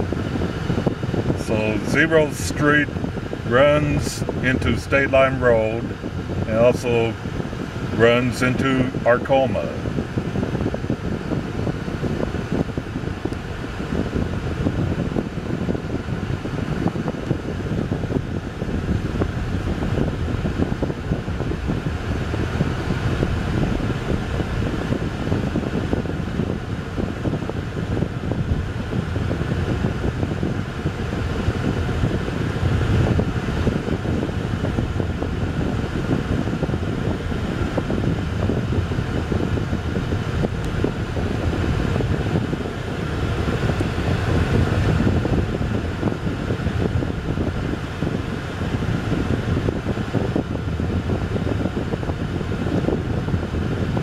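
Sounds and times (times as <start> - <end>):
tyres rumbling on road: 0.0 - 54.0.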